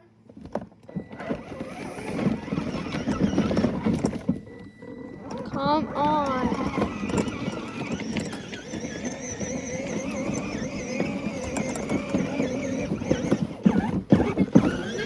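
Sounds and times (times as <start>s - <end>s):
mini bike engine running: 1.1s - 15.0s.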